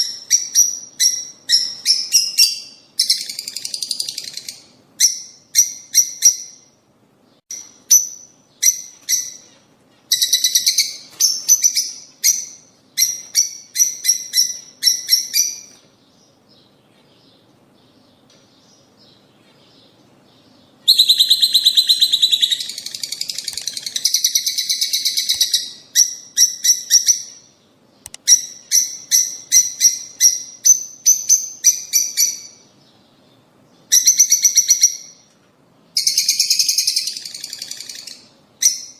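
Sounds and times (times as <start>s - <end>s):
lovebirds chirping: 0.0s - 38.9s.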